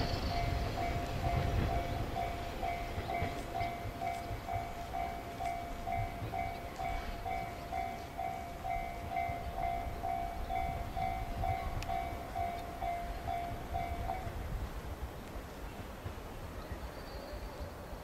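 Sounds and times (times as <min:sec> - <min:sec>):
level crossing warning bell: 0:00.0 - 0:14.5
low rumble of electric train: 0:00.0 - 0:18.0.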